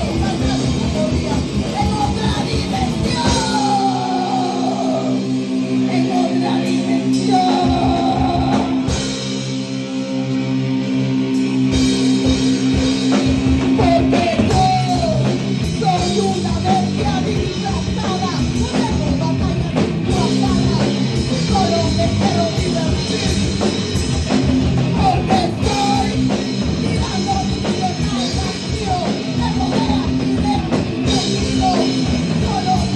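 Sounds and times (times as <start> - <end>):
distorted electric guitars: 0.0 - 32.9
drum kit: 0.0 - 32.9.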